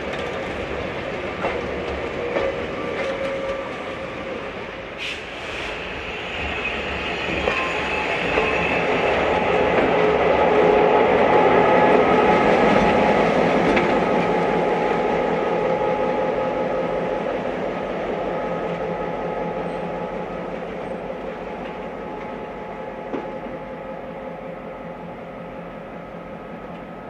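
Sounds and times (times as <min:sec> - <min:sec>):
train rolling on rails: 0:00.0 - 0:27.0.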